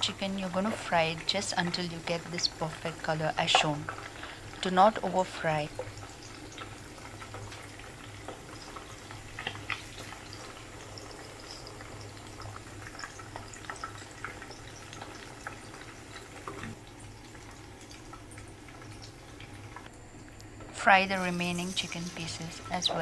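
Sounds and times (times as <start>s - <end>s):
low steady hum: 0.0s - 23.0s
oil bubbling deep-frying: 0.0s - 23.0s
small pops and crackles: 0.5s - 20.5s.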